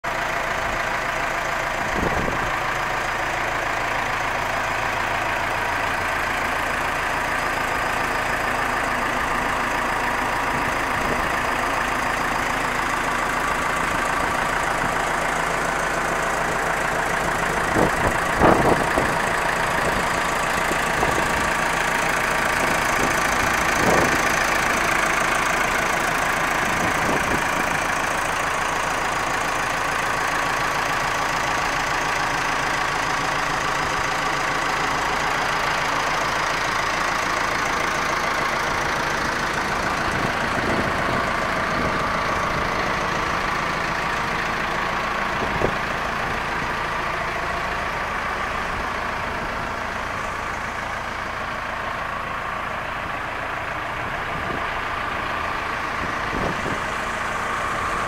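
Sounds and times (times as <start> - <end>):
diesel tractor engine idling: 0.0 - 58.0.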